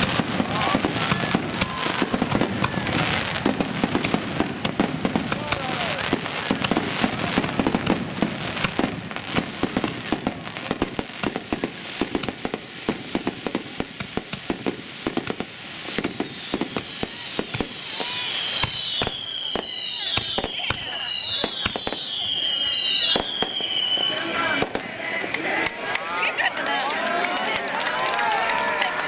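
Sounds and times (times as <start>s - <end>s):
fireworks falling whistles: 0.0s - 24.8s
fireworks crackling and banging: 0.0s - 29.0s.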